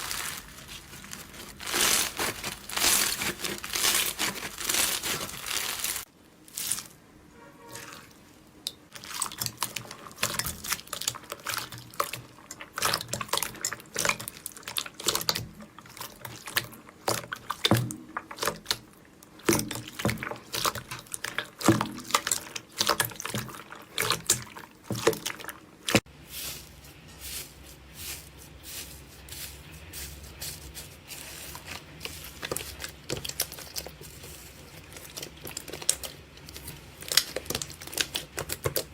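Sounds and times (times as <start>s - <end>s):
slime squelching and popping: 0.0s - 6.9s, 8.9s - 26.1s, 31.3s - 38.9s.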